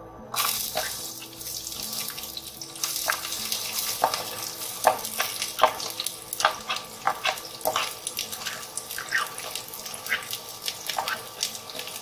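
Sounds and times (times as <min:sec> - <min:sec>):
onions sizzling in oil: 0:00.3 - 0:12.0.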